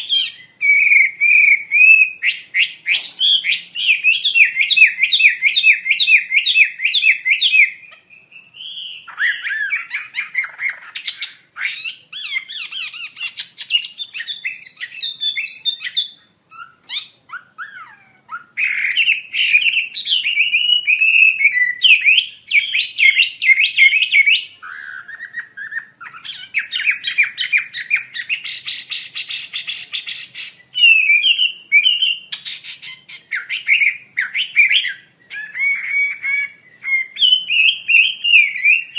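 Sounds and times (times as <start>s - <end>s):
bird singing whistled trills: 0.0s - 38.9s.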